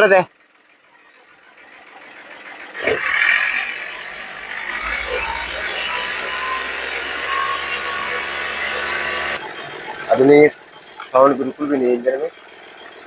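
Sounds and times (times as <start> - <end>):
car engine revving and running: 0.0 - 13.0.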